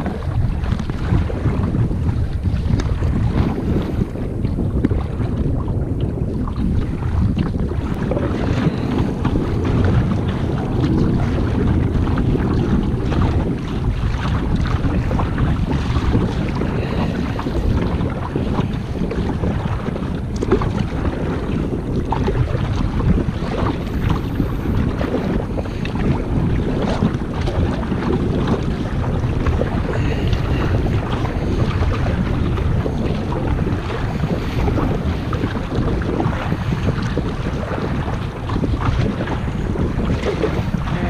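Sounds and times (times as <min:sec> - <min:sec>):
choppy water splashing: 0:00.0 - 0:41.0
wind buffeting microphone: 0:00.0 - 0:41.0.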